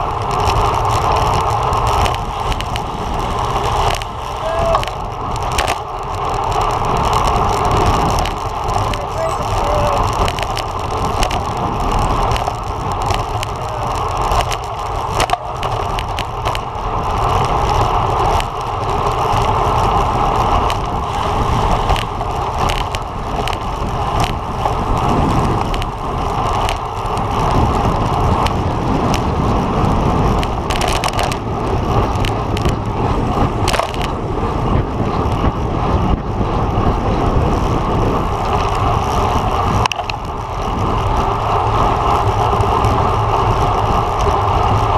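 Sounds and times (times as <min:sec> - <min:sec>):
road rumble: 0:00.0 - 0:44.9
wind rushing: 0:00.0 - 0:44.9.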